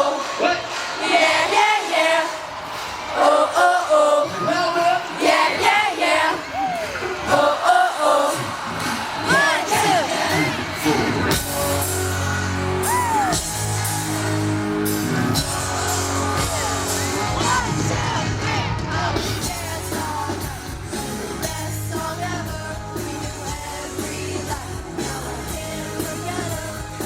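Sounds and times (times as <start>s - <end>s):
fans yelling and whooping: 0.0s - 27.0s
live pop band with singing: 0.0s - 27.0s.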